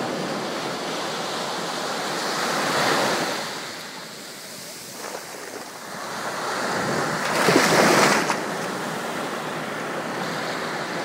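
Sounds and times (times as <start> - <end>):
wave crashing on beach: 0.0 - 11.0.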